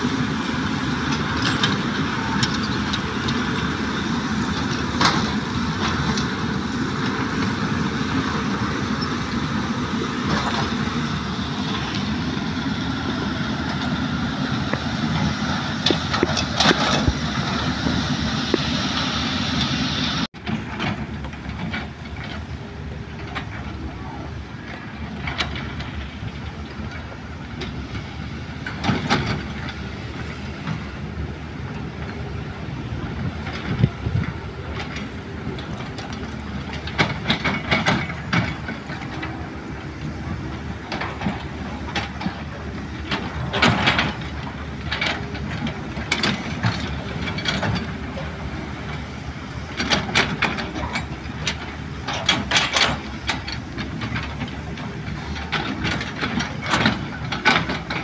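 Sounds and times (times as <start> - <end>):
excavator diesel engines running: 0.0 - 58.0.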